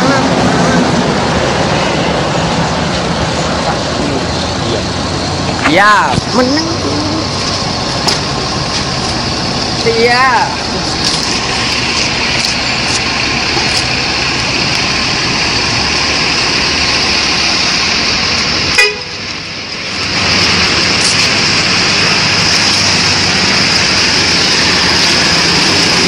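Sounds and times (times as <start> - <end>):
coach engine running: 0.0 - 26.0.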